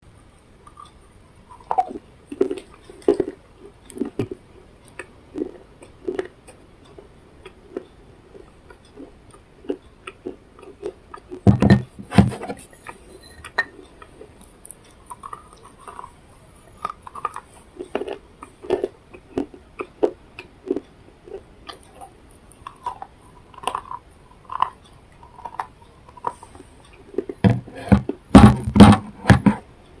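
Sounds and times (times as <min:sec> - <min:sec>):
person chewing and biting food: 0:00.6 - 0:28.6.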